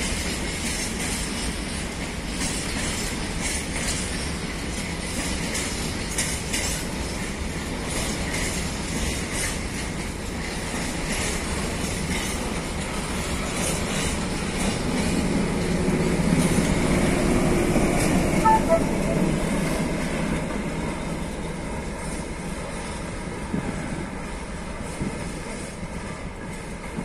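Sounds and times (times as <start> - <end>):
diesel locomotive engine: 0.0 - 27.0.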